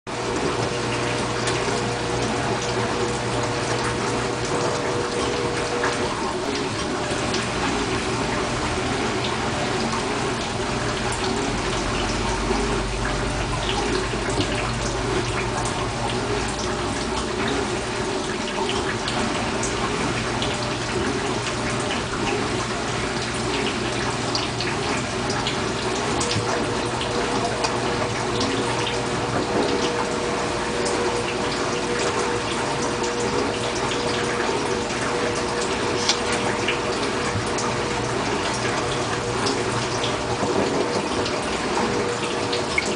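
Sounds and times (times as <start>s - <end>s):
water splashing in washing machine: 0.1s - 42.9s.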